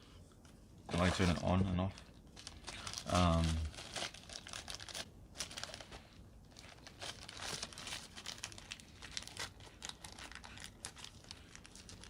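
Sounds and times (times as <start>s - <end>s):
plastic packaging crinkling: 0.9s - 12.0s.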